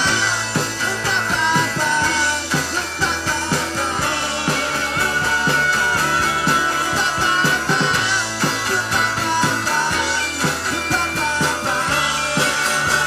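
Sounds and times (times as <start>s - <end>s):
bass guitar: 0.0s - 13.0s
drum kit beat: 0.0s - 13.0s
electric and acoustic guitars: 0.0s - 13.0s.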